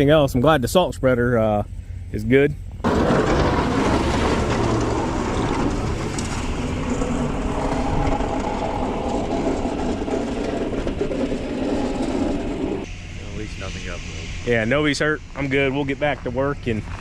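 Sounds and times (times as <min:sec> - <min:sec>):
heavy vehicle engine droning: 0:02.8 - 0:17.0.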